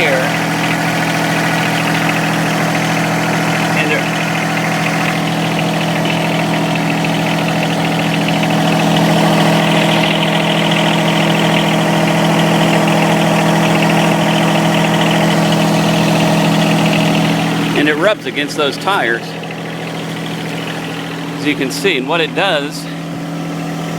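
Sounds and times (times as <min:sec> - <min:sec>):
diesel tractor engine idling: 0:00.0 - 0:23.9.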